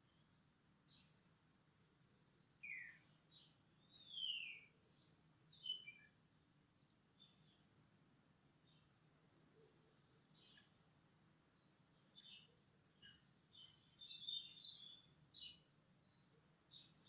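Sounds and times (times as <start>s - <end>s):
faint birdsong chirps and whistles: 0.0s - 1.3s, 2.3s - 7.8s, 8.6s - 17.0s.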